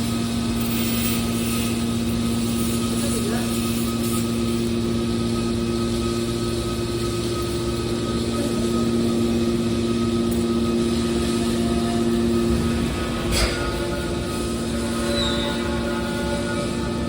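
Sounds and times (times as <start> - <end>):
constant whine: 0.0 - 17.0
baler machine hum: 1.8 - 17.0.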